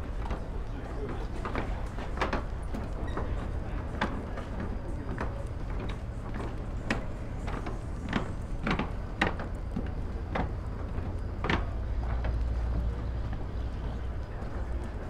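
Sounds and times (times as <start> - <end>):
footsteps on dock decking: 0.0 - 15.0
steady low rumble: 0.0 - 15.0.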